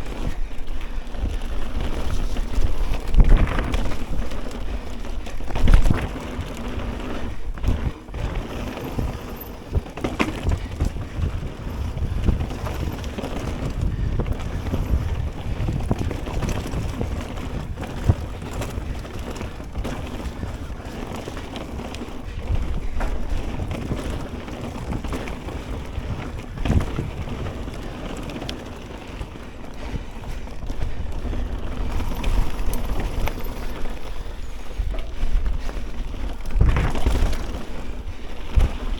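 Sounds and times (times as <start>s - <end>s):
bike rattling and knocking: 0.0s - 38.9s
tyres rolling over dirt and stones: 0.0s - 38.9s
wind buffeting microphone: 0.0s - 38.9s.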